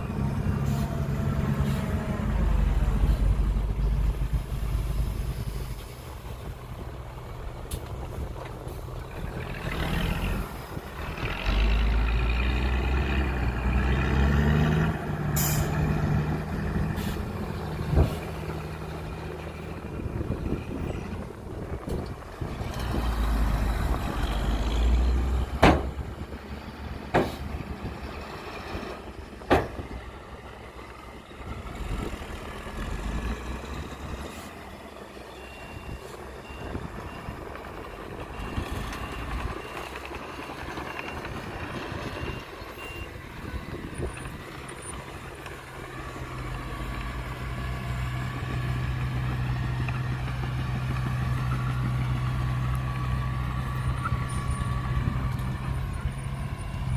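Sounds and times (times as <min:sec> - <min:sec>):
diesel engine: 0:00.0 - 0:56.9.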